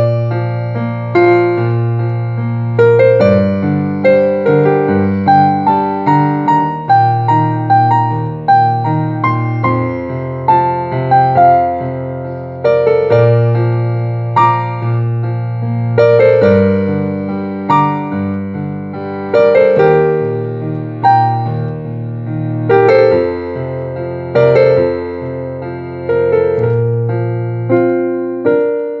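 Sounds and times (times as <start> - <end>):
slow piano piece: 0.0 - 29.0.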